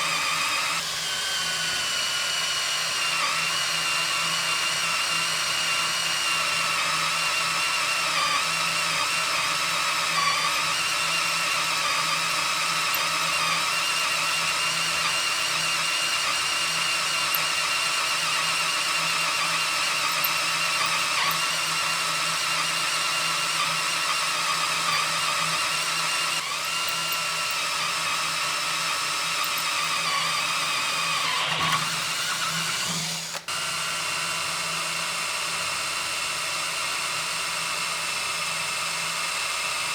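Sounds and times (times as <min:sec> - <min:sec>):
cordless drill drilling into steel: 0:00.0 - 0:39.9.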